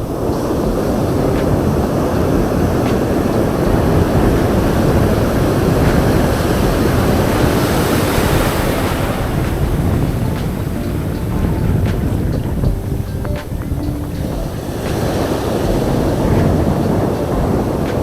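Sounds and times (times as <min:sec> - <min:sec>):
ocean surf rushing: 0:00.0 - 0:18.0.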